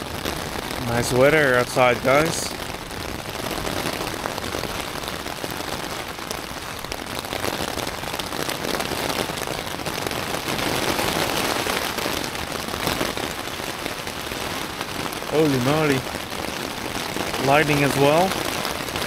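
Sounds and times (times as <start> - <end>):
rain falling on a tent: 0.0 - 19.0.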